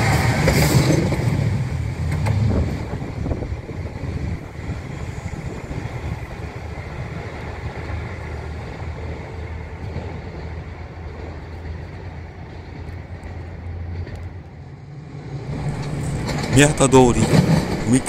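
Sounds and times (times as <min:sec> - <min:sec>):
passing vehicles rumbling: 0:00.0 - 0:18.0.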